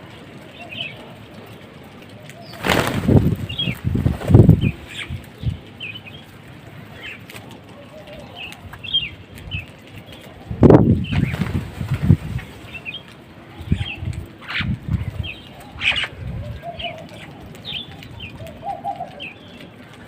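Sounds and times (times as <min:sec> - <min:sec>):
wings flapping: 0:02.2 - 0:05.5, 0:07.0 - 0:20.0
small birds chirping: 0:02.2 - 0:20.0.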